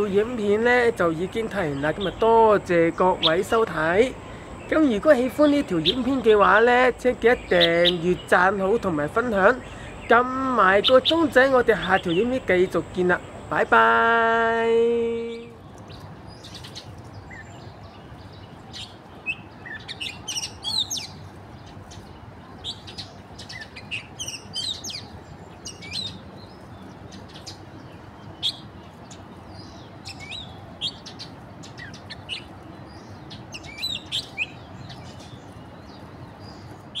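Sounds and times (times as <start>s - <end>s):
low background rush: 0.0s - 37.0s
small birds chirping: 0.0s - 37.0s.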